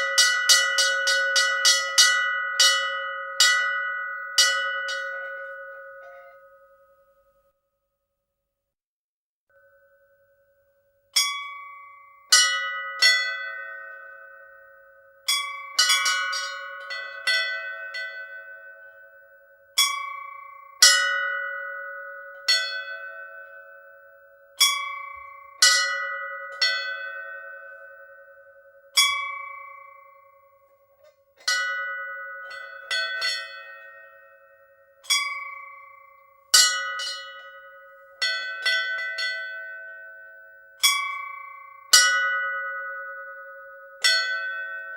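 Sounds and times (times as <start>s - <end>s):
temple bells ringing: 0.0s - 7.4s, 9.5s - 44.9s.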